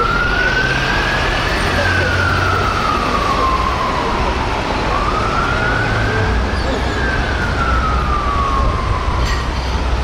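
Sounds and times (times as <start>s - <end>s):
fire truck siren wailing: 0.0s - 10.0s
traffic noise: 0.0s - 10.0s.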